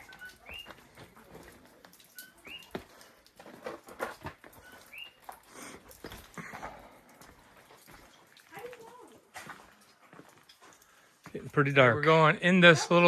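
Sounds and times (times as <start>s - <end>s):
footsteps on rock: 0.0s - 10.6s.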